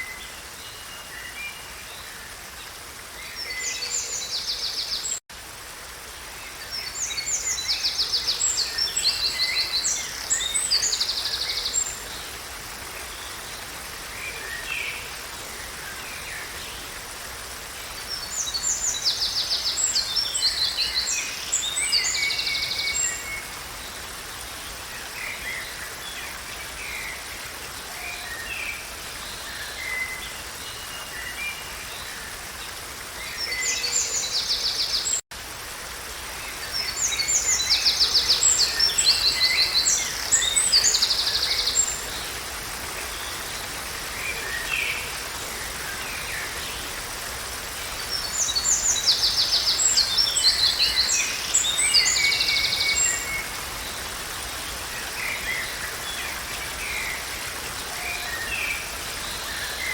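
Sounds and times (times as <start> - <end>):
forest ambience hiss: 0.0 - 59.9.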